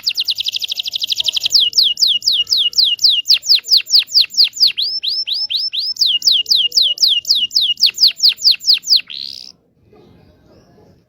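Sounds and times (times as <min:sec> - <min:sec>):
canary singing trills: 0:00.0 - 0:09.6.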